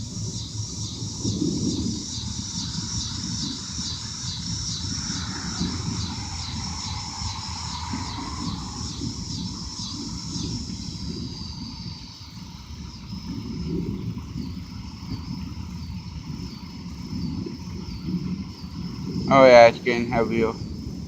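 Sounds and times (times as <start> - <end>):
insect chirping: 0.0 - 21.0
wind: 0.0 - 21.0.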